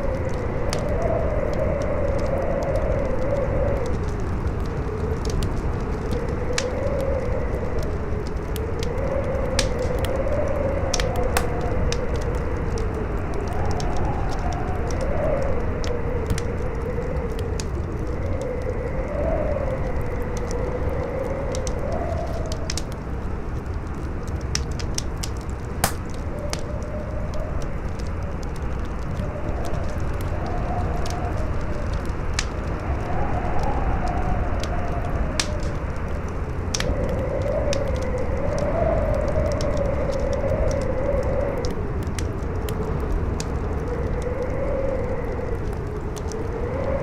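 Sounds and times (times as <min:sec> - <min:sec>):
fire crackling and popping: 0:00.0 - 0:47.0
howling wind: 0:00.0 - 0:47.0.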